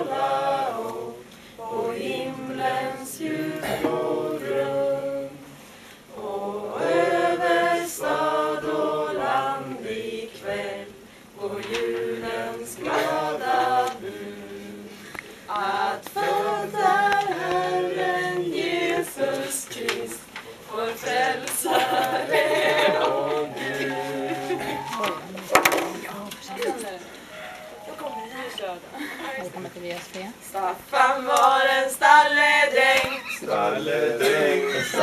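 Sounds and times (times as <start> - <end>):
group singing unaccompanied: 0.0 - 28.4, 30.6 - 35.0.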